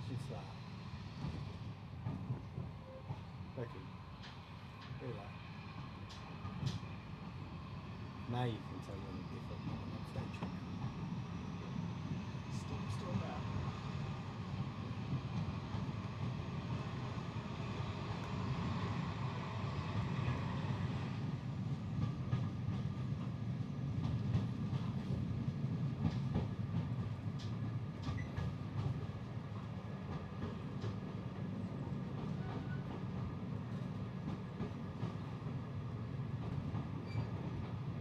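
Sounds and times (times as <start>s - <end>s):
train rumble from inside carriage: 0.0s - 38.0s.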